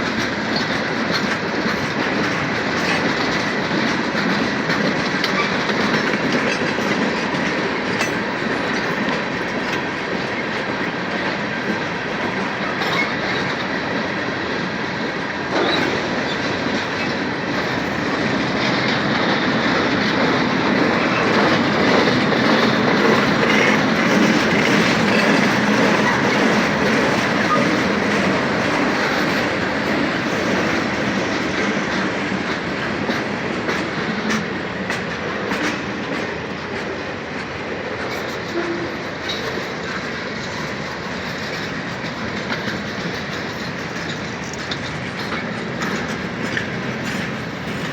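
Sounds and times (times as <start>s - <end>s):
train wheels rolling on rails: 0.0s - 47.9s.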